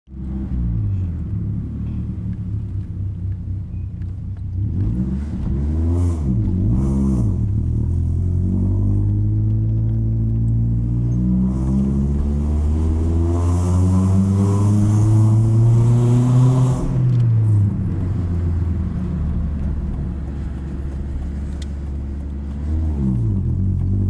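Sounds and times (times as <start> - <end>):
car engine idling and revving: 0.1 - 24.0.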